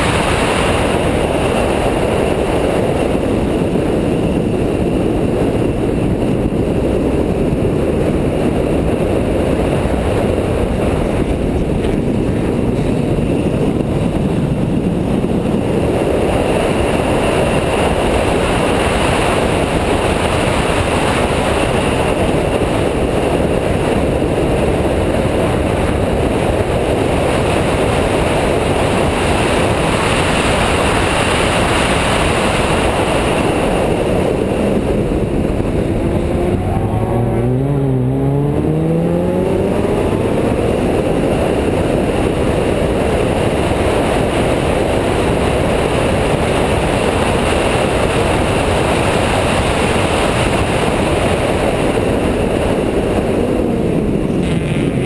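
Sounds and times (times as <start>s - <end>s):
car engine at speed: 0.0s - 55.0s
road noise: 0.0s - 55.0s
wind noise: 0.0s - 55.0s.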